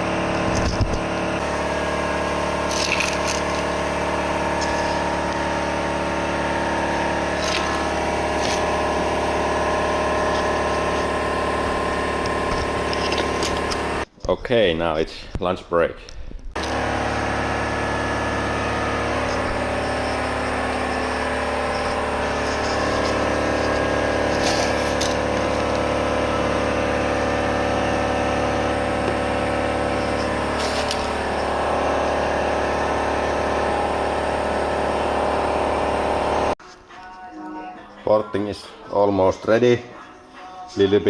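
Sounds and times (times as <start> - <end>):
engine running steadily: 0.0 - 14.1, 16.5 - 36.6.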